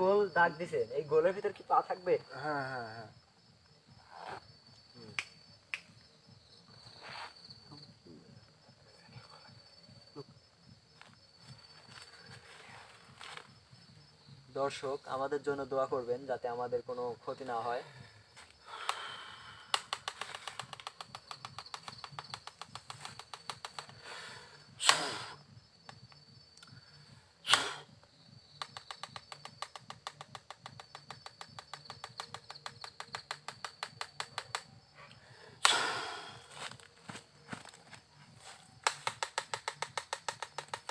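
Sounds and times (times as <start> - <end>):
night insects chirring: 0.0 - 40.9.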